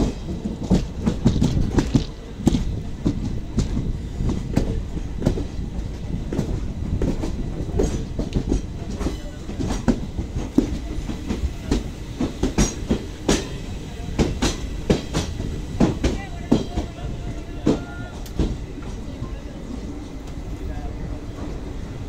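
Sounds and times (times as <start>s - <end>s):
train wheels clicking on track: 0.0s - 22.0s.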